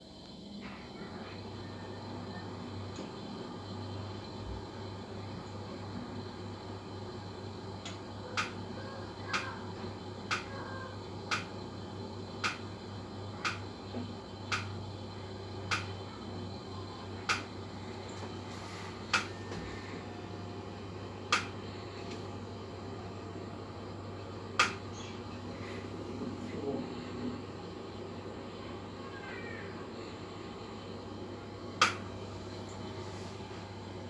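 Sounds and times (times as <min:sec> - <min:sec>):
steady low hum: 0:00.0 - 0:34.0
boiler clicking: 0:00.2 - 0:34.0.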